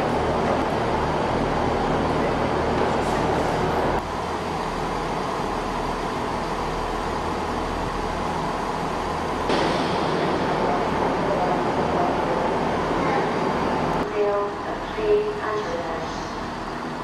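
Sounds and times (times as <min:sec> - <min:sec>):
noisy background haze: 0:00.0 - 0:17.0
train diesel engine idling: 0:00.0 - 0:17.0.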